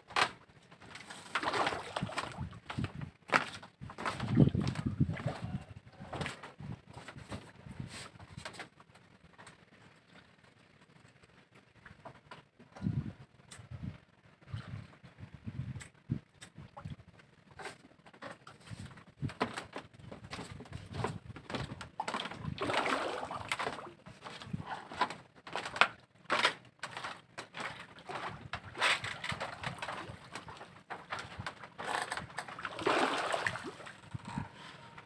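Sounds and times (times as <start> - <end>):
water lapping and sloshing: 0.0 - 12.3, 16.6 - 35.0.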